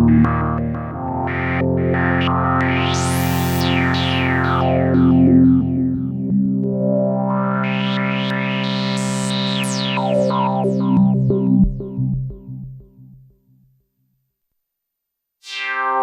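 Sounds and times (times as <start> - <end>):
synthesizer chord with filter sweeps: 0.0 - 13.3.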